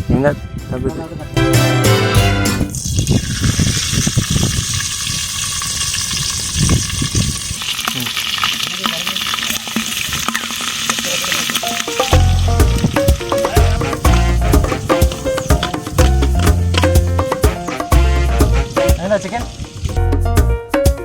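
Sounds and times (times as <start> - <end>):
food frying with sizzle: 2.7 - 20.0.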